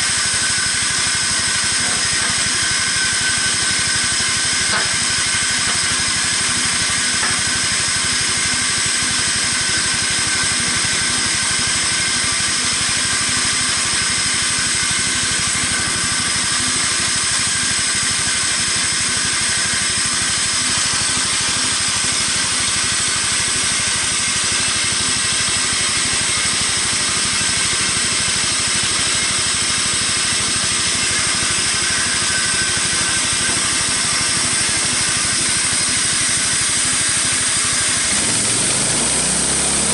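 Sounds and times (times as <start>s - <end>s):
band saw sawing through wood: 0.0s - 39.9s.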